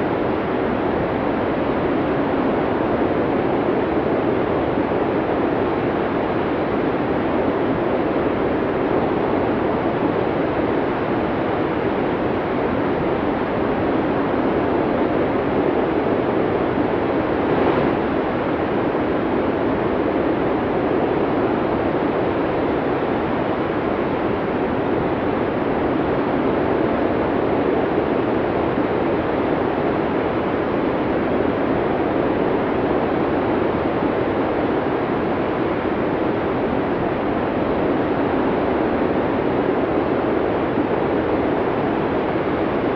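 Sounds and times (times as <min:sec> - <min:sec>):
snowstorm wind blowing hard: 0:00.0 - 0:42.9.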